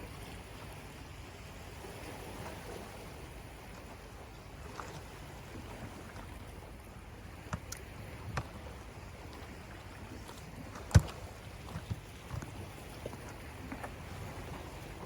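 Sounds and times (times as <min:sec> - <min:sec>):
sea water wash: 0:00.0 - 0:15.0
wind: 0:00.0 - 0:15.0.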